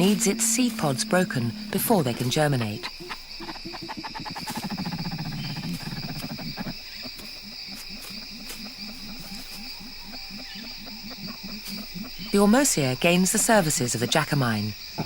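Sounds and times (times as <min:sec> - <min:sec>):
birds giving deep low hoots: 0:00.0 - 0:14.0
insects droning: 0:00.0 - 0:15.0.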